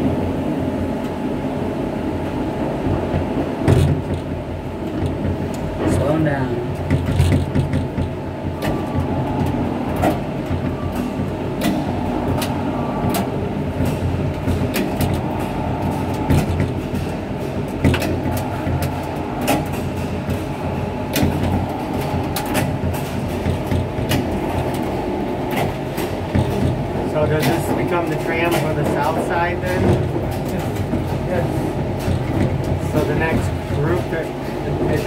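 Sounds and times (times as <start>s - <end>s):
tram capsule rumbling: 0.0s - 35.0s.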